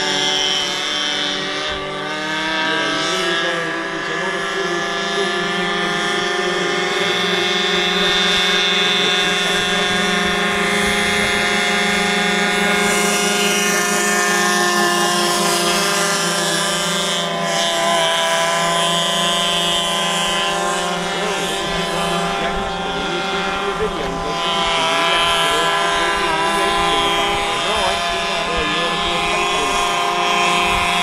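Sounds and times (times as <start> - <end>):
model airboat engine running: 0.0 - 31.0.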